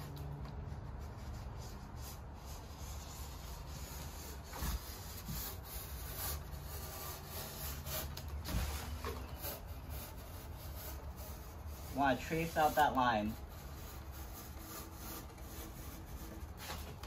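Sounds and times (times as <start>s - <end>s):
utility knife scoring foam board: 0.0s - 17.0s.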